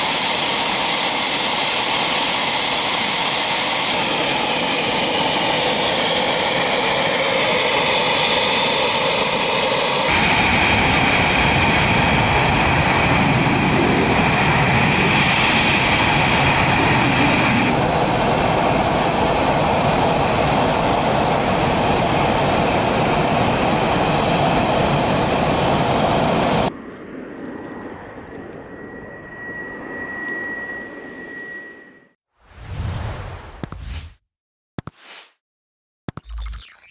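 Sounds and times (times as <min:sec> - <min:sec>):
military jet engines running: 0:00.0 - 0:31.3.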